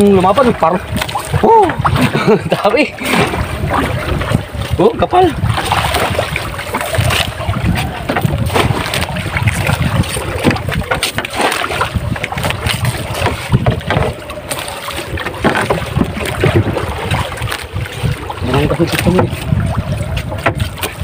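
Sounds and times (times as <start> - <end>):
knocks and splashes: 0.0 - 21.0
water moving around hull: 0.0 - 21.0
wind buffeting microphone: 0.0 - 21.0.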